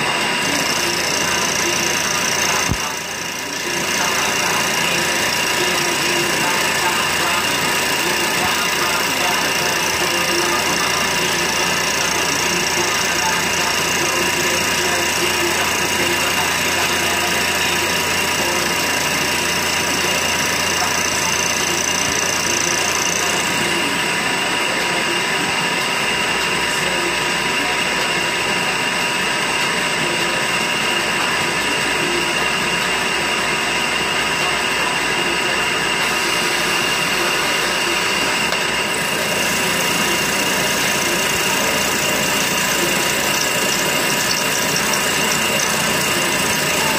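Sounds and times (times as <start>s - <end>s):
machine tool whining: 0.0s - 46.9s.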